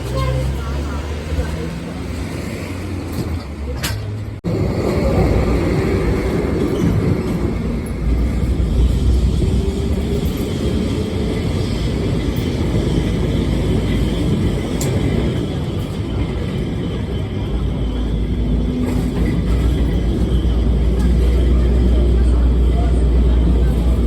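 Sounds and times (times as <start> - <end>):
tram rumbling on rails: 0.0 - 24.0.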